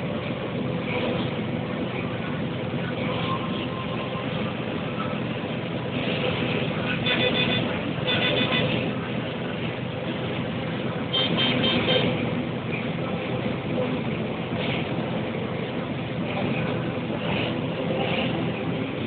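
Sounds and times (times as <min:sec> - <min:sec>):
tractor and combine engines: 0:00.0 - 0:19.0.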